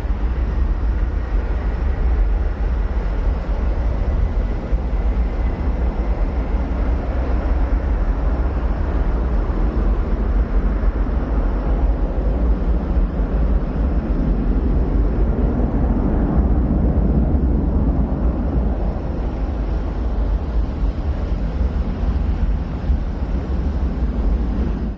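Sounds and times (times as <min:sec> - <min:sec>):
distant jet rumble: 0:00.0 - 0:24.9.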